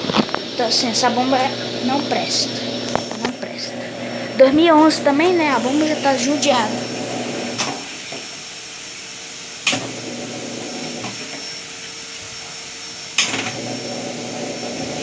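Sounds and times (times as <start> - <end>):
washing machine drain pump humming: 0.0 - 15.0.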